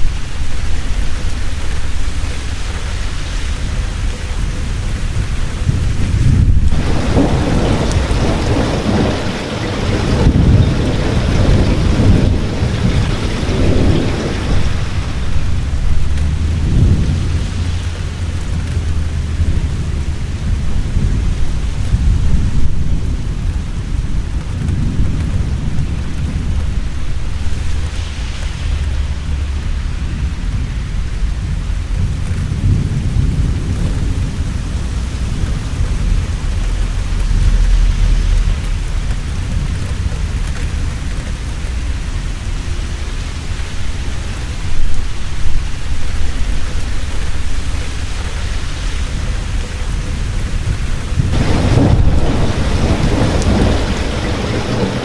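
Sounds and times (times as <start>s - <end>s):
deep thunder rumbles: 0.0s - 55.0s
heavy rain falling: 0.0s - 55.0s.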